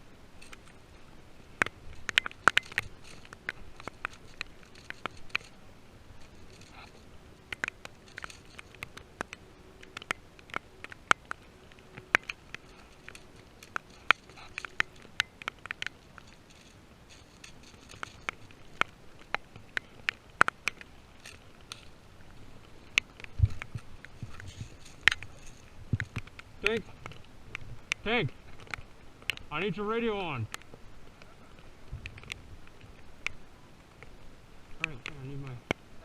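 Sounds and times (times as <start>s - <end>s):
sharp clicks and snaps: 1.6s - 5.6s, 6.2s - 22.0s, 22.6s - 29.5s, 30.4s - 33.4s, 34.7s - 35.8s.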